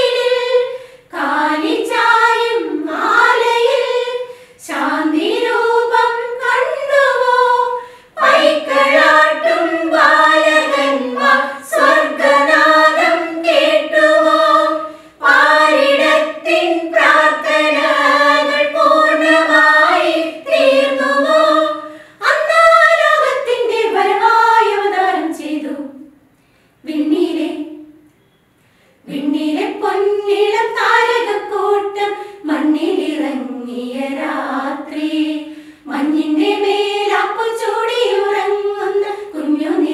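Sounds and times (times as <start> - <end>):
women singing a carol: 0.0 - 26.2, 26.8 - 28.0, 29.0 - 39.9.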